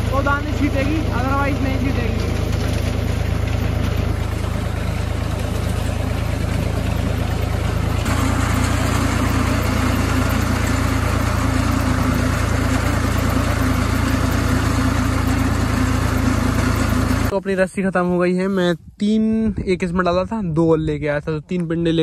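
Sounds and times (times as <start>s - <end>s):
tractor engine running under load: 0.0s - 18.0s.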